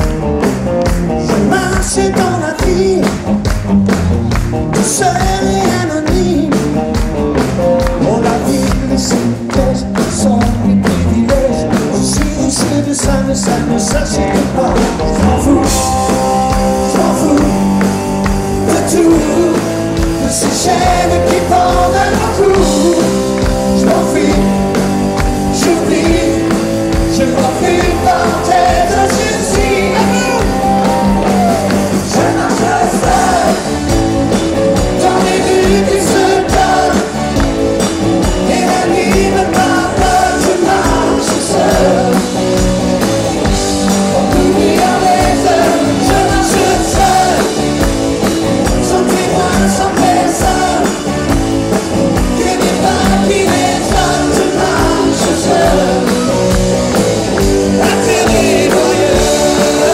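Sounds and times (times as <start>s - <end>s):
rock song with singing: 0.0s - 59.9s.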